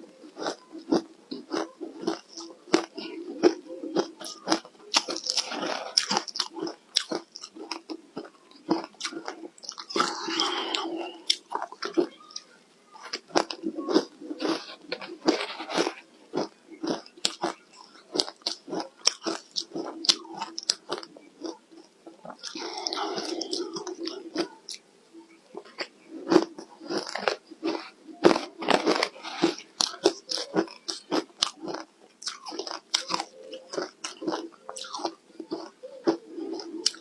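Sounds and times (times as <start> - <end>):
ice being crunched and chewed: 0.3 - 12.4, 13.0 - 24.8, 25.6 - 37.0.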